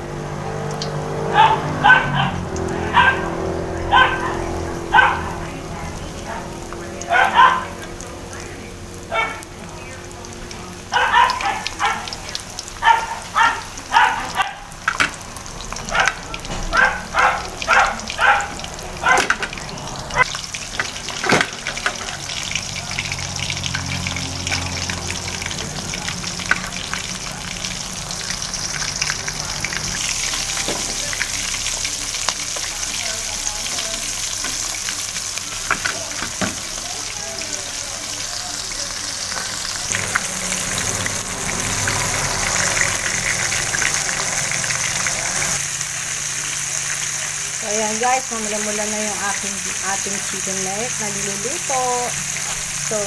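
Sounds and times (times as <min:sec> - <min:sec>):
deep-frying sizzle: 0:00.0 - 0:53.0
utensil turning frying pieces: 0:00.0 - 0:53.0.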